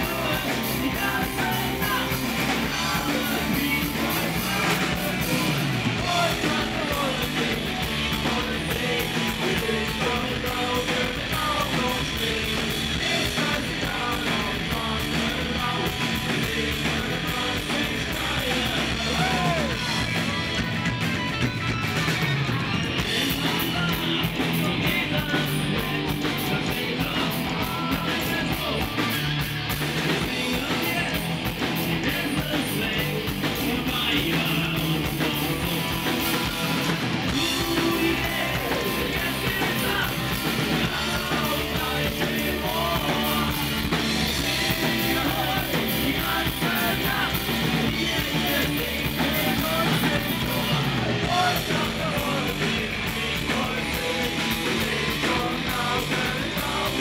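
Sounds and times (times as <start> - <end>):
man singing: 0.0 - 20.2, 23.0 - 57.0
bass guitar: 0.0 - 57.0
drum kit: 0.0 - 57.0
electric guitars: 0.0 - 57.0.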